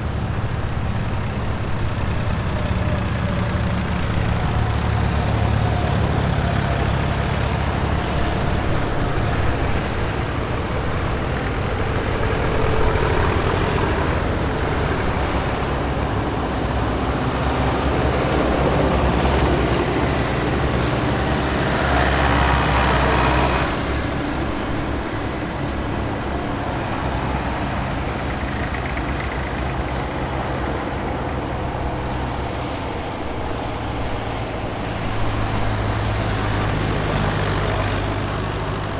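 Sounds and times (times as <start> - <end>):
tractor engines driving past: 0.0 - 38.9.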